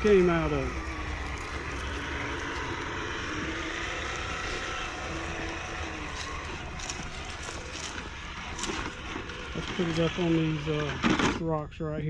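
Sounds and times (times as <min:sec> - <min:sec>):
electric motor whirring: 0:00.0 - 0:11.5.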